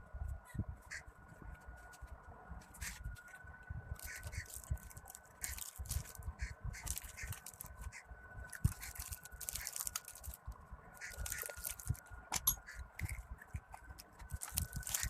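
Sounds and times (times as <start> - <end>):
faint high whine: 0.0 - 15.0
clicks scrapes and crinkling: 1.6 - 15.0.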